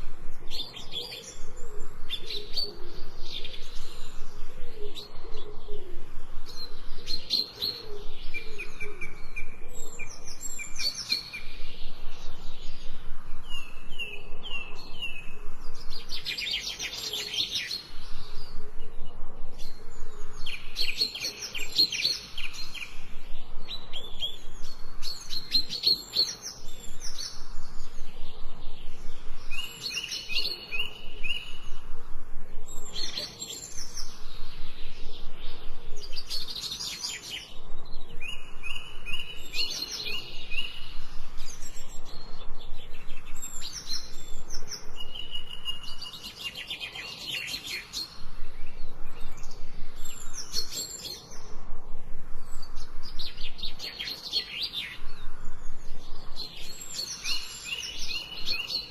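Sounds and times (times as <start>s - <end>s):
birds chirping and singing: 0.0s - 58.9s.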